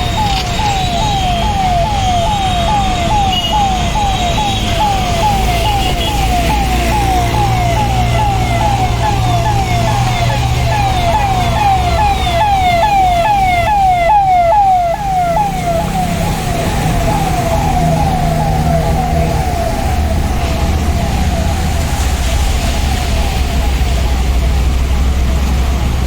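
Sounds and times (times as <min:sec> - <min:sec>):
emergency siren sweeping: 0:00.0 - 0:26.0
traffic engine rumble: 0:00.0 - 0:26.0.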